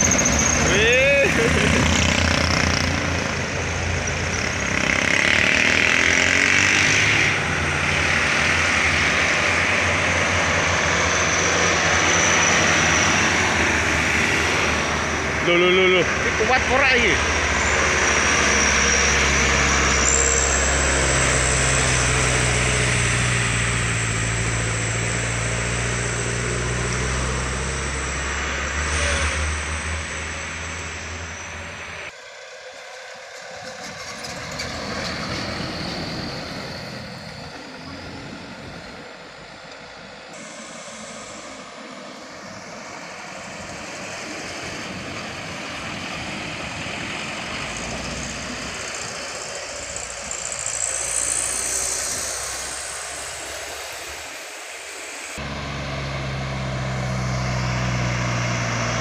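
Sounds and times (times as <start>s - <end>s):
diesel truck engines at full throttle: 0.0s - 59.0s.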